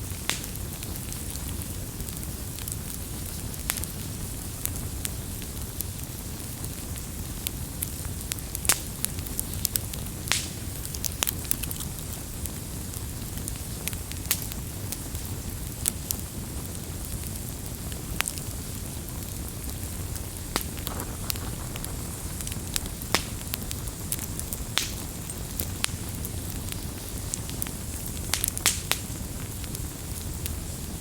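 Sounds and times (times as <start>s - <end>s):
low rumble of burning: 0.0s - 31.0s
campfire pops and snaps: 0.1s - 31.0s.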